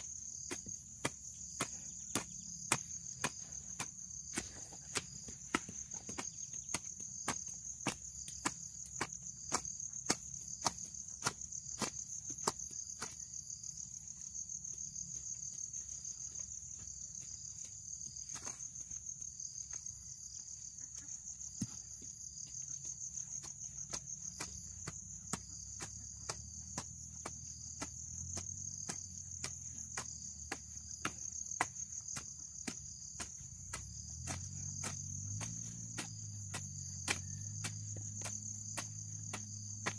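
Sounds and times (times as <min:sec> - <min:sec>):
hoe scraping grass and soil: 0:00.0 - 0:39.9
insects chirring: 0:00.0 - 0:39.9.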